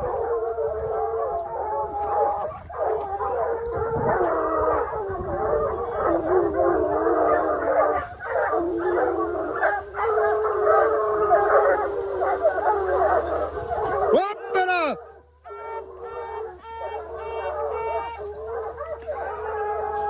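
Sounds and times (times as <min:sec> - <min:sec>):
hounds baying: 0:00.0 - 0:20.0.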